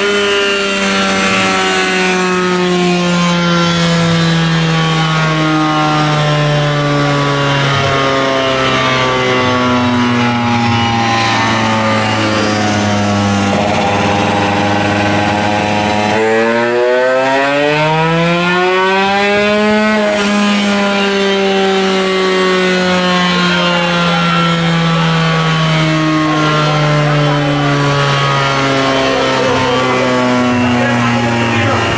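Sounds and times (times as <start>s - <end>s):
two-stroke motorcycle engine revving: 0.0s - 31.9s.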